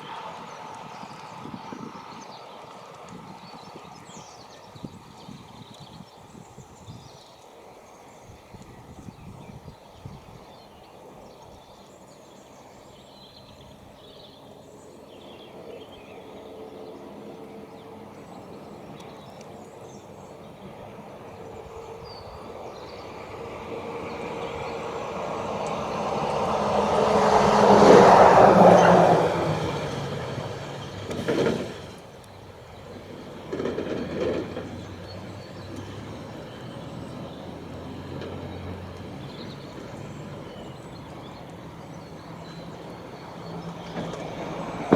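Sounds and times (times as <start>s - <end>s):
train passing by: 0.0s - 44.9s.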